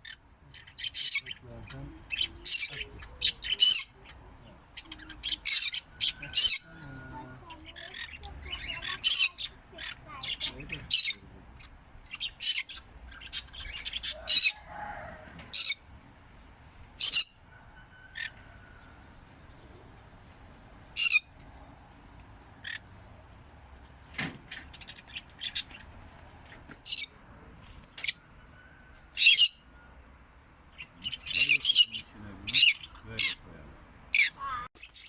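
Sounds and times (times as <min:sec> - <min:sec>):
parrots chirping and squawking: 0:00.0 - 0:19.4, 0:20.7 - 0:21.4, 0:22.1 - 0:23.1, 0:24.5 - 0:29.7, 0:30.7 - 0:35.0.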